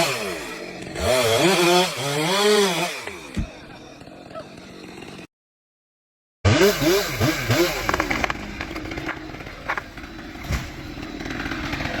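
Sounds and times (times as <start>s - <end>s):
small engine revving: 0.0s - 5.3s, 6.5s - 12.0s.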